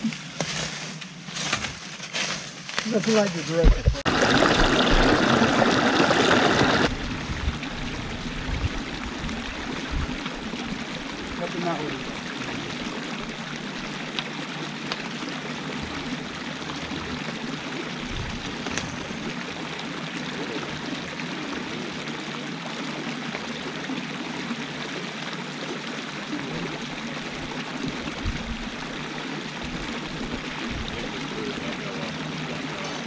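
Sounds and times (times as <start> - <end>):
creek water rushing over rocks: 2.9 - 33.0.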